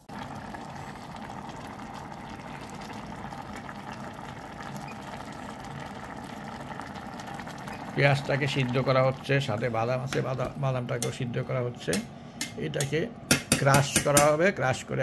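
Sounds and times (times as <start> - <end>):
pot of water boiling: 0.0 - 15.0.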